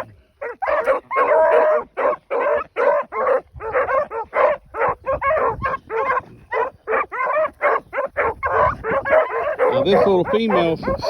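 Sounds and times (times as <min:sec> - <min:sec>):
hounds barking: 0:00.0 - 0:11.0.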